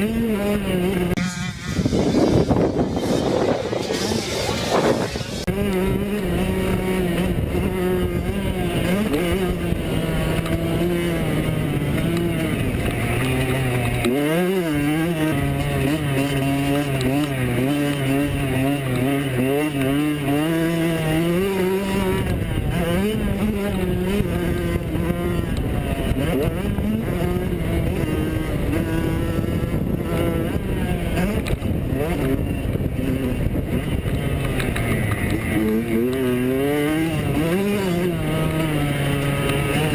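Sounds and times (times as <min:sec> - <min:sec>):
two-stroke motocross bikes revving: 0:00.0 - 0:39.9.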